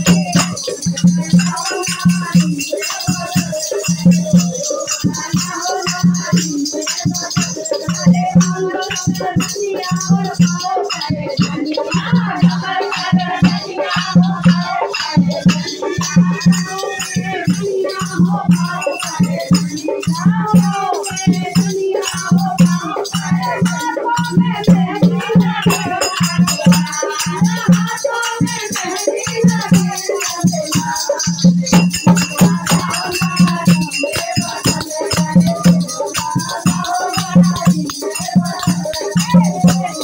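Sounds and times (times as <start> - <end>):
hand drum beating: 0.0 - 40.0
jingling hand percussion: 0.0 - 40.0
women singing together: 0.0 - 40.0.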